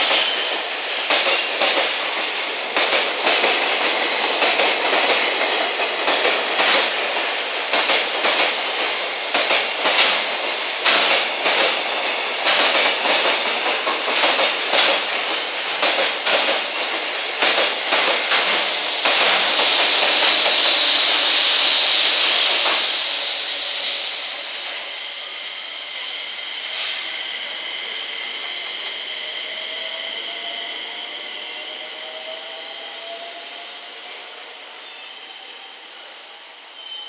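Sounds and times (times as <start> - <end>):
locomotive rushing hiss: 0.0 - 37.0.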